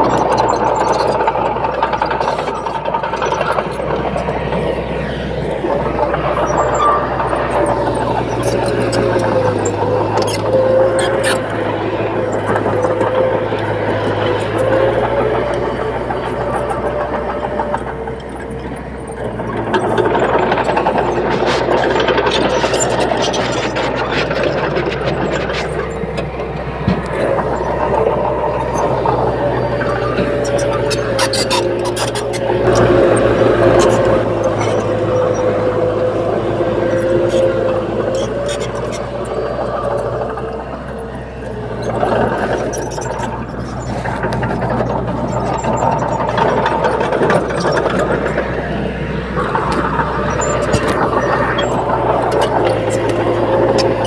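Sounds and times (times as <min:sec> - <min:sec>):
heavy diesel engine running: 0:00.0 - 0:54.0
sharp clicks and rattles: 0:00.0 - 0:54.0.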